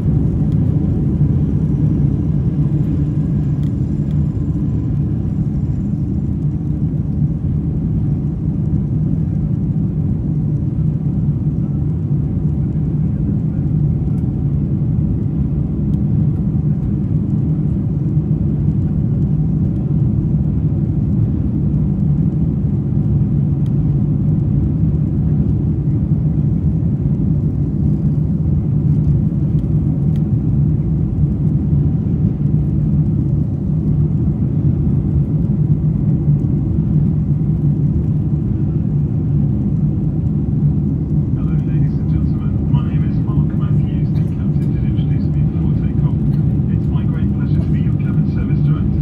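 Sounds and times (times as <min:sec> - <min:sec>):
airplane cabin engine rumble: 0:00.0 - 0:49.0.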